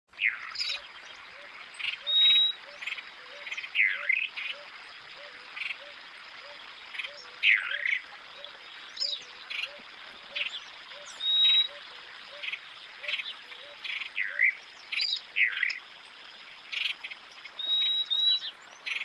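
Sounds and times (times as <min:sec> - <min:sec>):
swooping bird calls: 0:00.2 - 0:15.8, 0:16.7 - 0:19.0.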